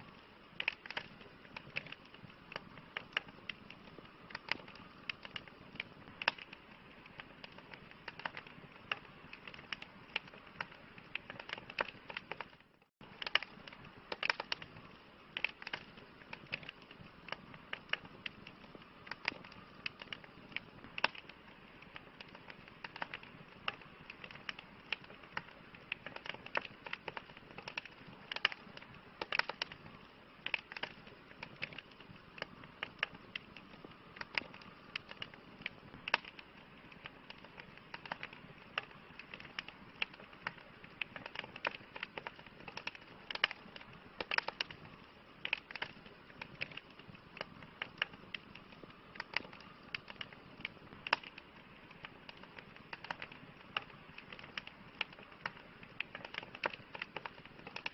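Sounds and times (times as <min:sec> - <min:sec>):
hiss of burning wood: 0:00.0 - 0:57.9
wood fire crackling: 0:00.0 - 0:57.9.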